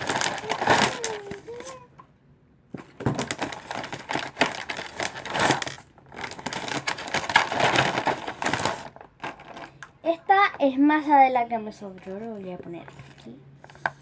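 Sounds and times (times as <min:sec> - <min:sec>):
packaging crinkling and rustling: 0:00.0 - 0:01.9, 0:02.7 - 0:09.9, 0:11.8 - 0:14.0.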